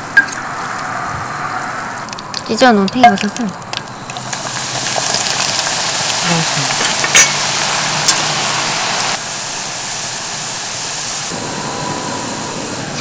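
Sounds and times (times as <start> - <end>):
food deep-frying in oil: 2.1 - 13.0.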